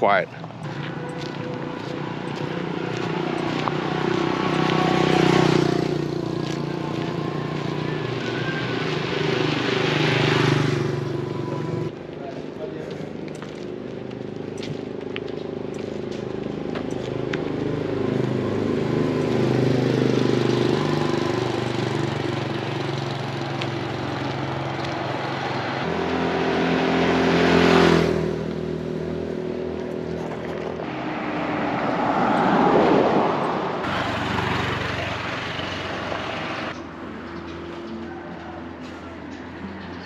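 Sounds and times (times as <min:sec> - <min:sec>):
vehicles driving past: 0:00.0 - 0:40.0.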